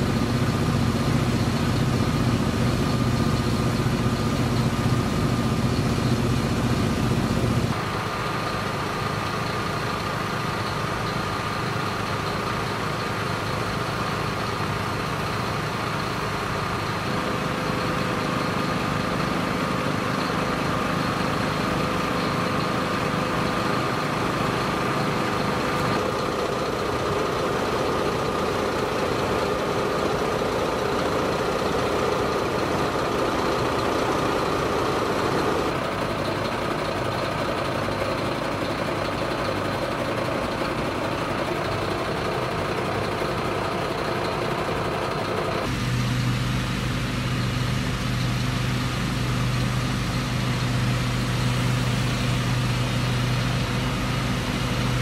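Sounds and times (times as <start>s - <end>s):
diesel engines idling: 0.0s - 55.0s.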